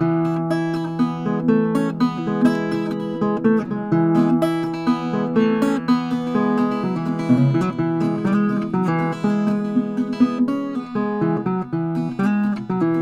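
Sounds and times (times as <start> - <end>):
acoustic guitar strummed: 0.0 - 13.0.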